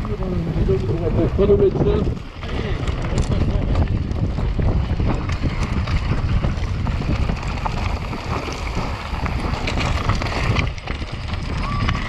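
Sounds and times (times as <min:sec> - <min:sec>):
bike rattling: 0:00.0 - 0:12.0
tyres clattering over rough ground: 0:00.0 - 0:12.0
wind rushing over microphone: 0:00.0 - 0:12.0.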